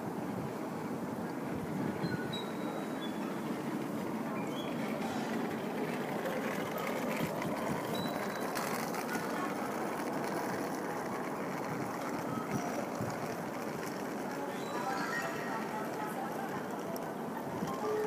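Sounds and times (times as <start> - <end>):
outdoor crowd murmuring: 0.0 - 18.0.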